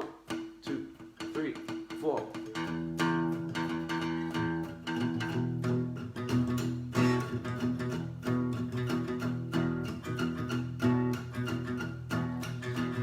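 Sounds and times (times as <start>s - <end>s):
guitar strumming chords: 0.0s - 13.0s.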